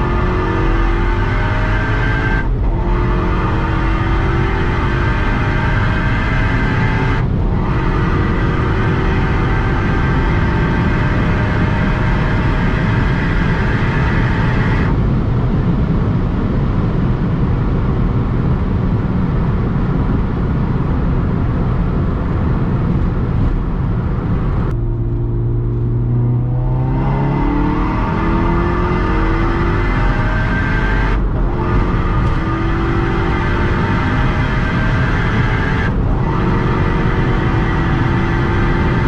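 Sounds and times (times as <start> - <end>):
car engine accelerating: 0.0 - 39.0
wind and tyre rush: 0.0 - 39.0.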